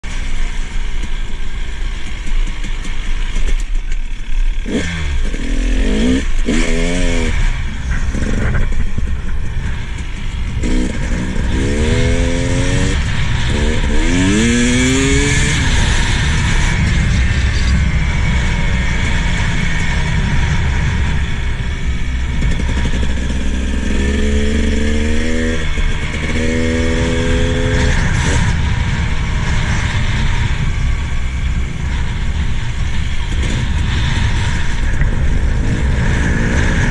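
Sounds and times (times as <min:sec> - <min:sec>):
wind rumble: 0:00.0 - 0:36.9
dirt bike engine revving: 0:04.1 - 0:36.9.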